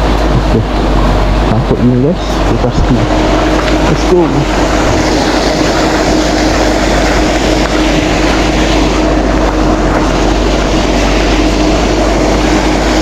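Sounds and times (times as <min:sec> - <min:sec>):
loud machine drone: 0:00.0 - 0:13.0.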